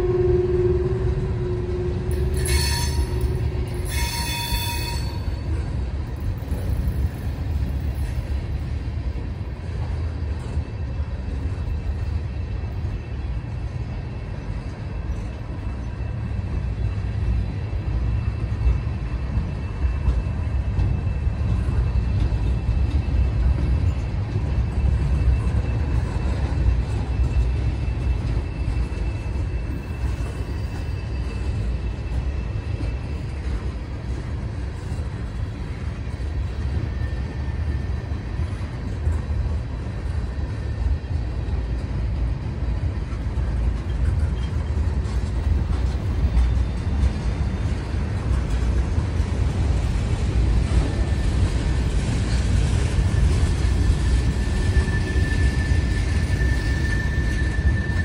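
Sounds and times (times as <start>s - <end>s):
wheels squealing against rail: 0.0s - 8.8s, 9.8s - 58.0s
train wheels rumbling on rail: 0.0s - 58.0s.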